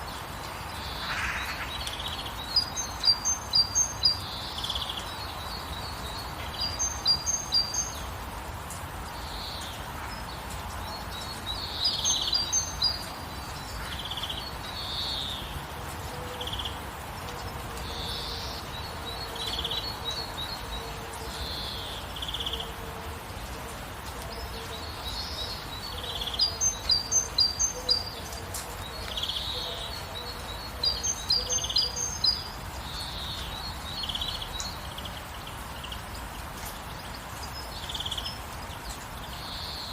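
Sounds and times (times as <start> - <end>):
rain hiss: 0.0 - 39.9
songbirds chirping: 0.0 - 39.9.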